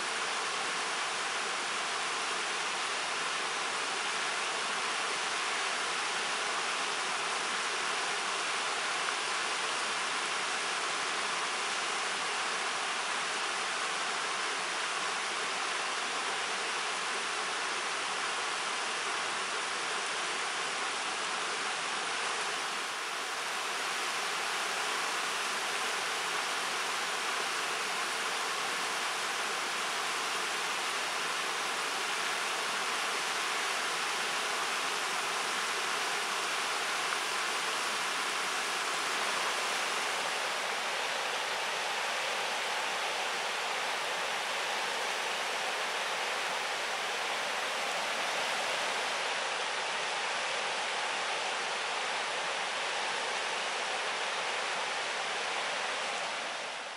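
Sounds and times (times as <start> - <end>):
river rushing over rocks: 0.0 - 56.9.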